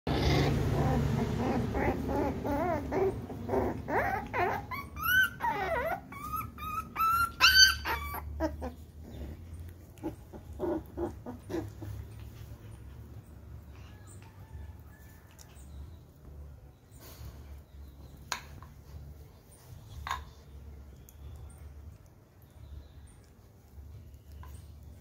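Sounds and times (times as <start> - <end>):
puppies whining and yelping: 0.1 - 20.4, 23.3 - 25.0.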